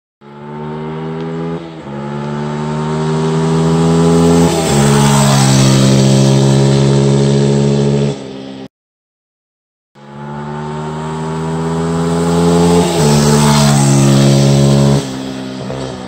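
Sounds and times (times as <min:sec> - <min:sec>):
motorcycle engine accelerating: 0:00.2 - 0:08.7, 0:10.0 - 0:16.0.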